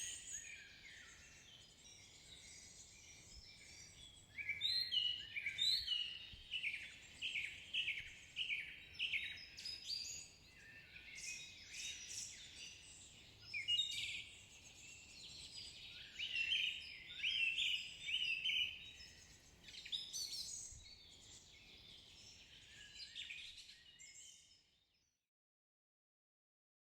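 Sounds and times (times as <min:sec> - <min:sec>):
songbirds chirping and singing: 0:00.0 - 0:24.8.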